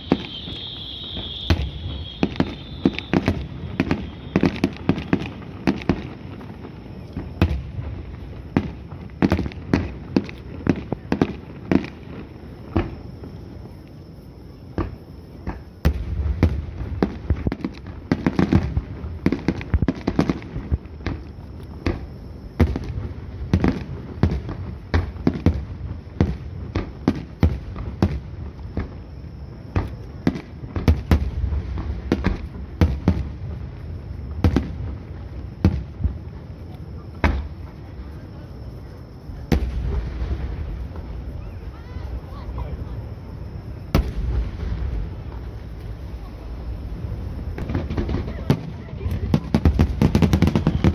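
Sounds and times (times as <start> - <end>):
fireworks bangs and booms: 0.0 - 50.9.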